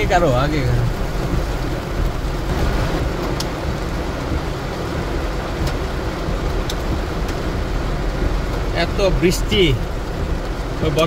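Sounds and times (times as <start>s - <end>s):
car engine idling hum: 0.0s - 11.0s
heavy rain on car roof: 0.0s - 11.0s.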